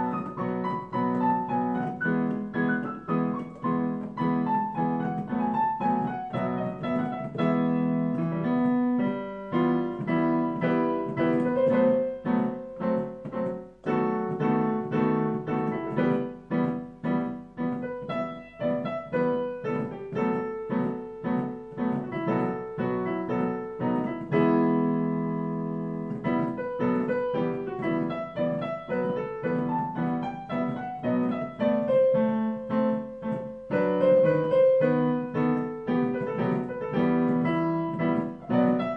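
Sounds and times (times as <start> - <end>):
piano improvisation: 0.0 - 38.9.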